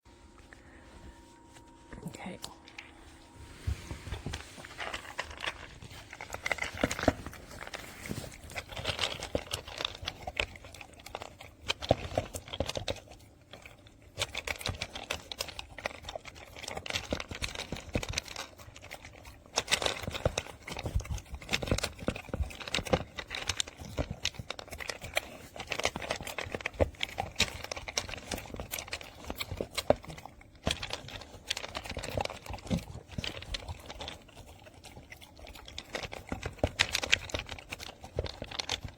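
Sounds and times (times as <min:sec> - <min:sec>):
dog eating kibble from plastic bowl: 0:02.2 - 0:38.9.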